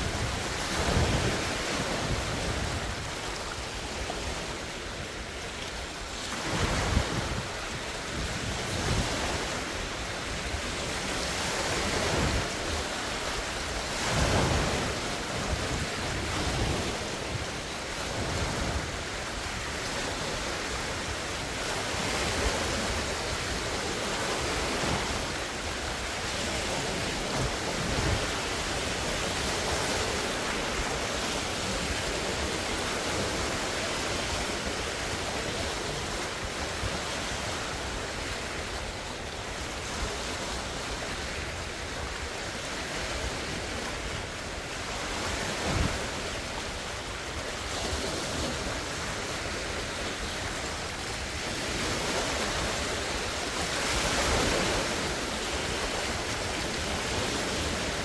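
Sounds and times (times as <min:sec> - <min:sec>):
wind buffeting microphone: 0:00.0 - 0:05.5, 0:06.4 - 0:58.0
lake waves breaking on shore: 0:00.0 - 0:58.0
rushing wind: 0:00.0 - 0:58.0.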